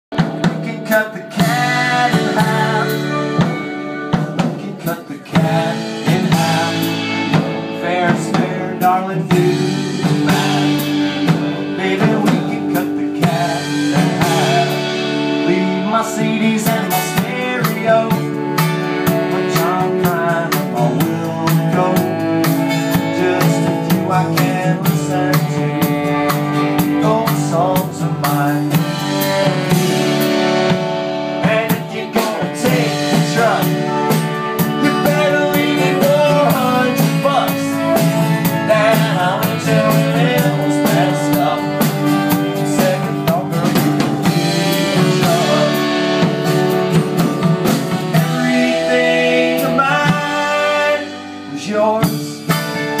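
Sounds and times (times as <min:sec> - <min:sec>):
drum kit steady beat: 0:00.1 - 0:53.0
electric and acoustic guitars: 0:00.1 - 0:53.0
saxophone: 0:00.1 - 0:53.0.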